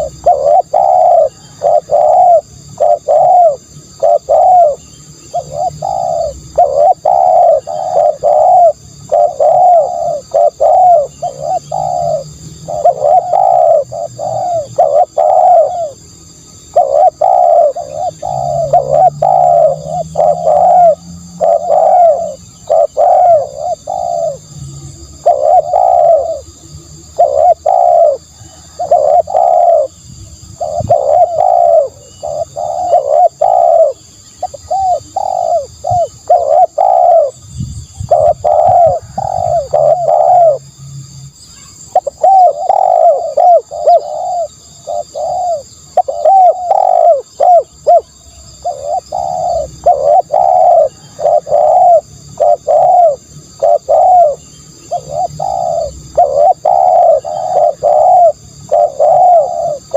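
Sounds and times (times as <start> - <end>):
dove cooing: 0.0 - 40.8, 41.6 - 59.9.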